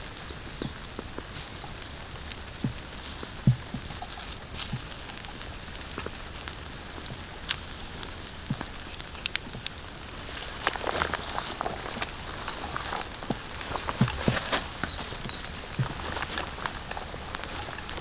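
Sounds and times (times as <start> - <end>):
raindrops tapping on a tarp: 0.0 - 18.0
steady rain hiss: 0.0 - 18.0.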